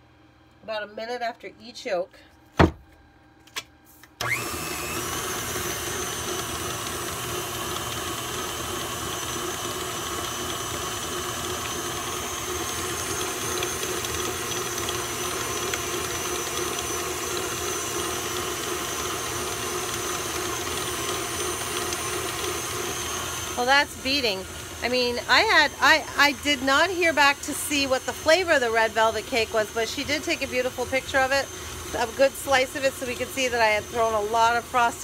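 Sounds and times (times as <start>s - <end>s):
stand mixer motor whining: 4.2s - 35.0s.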